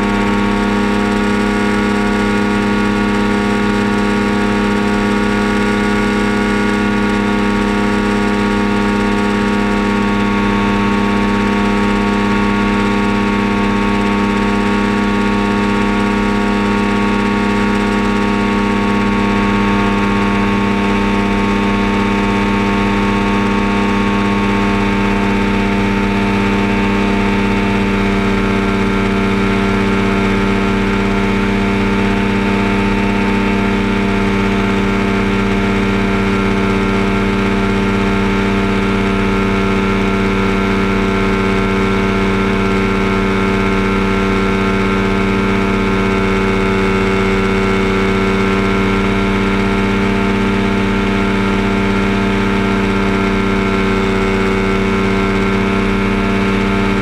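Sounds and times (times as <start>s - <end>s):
ultralight aircraft engine droning: 0.0s - 57.0s.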